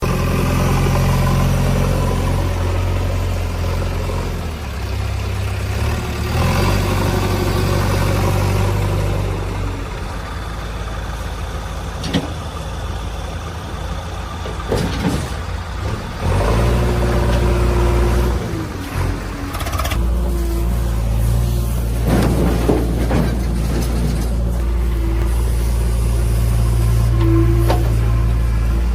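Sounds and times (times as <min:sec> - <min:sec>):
heavy diesel engine revving: 0:00.0 - 0:28.9.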